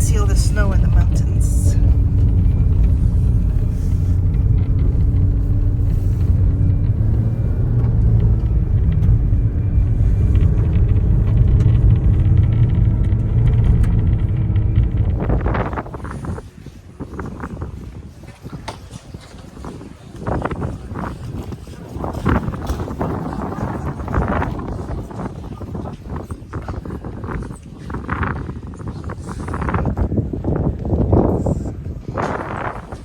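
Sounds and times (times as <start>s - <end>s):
car road and engine rumble: 0.0s - 18.1s, 19.6s - 33.0s.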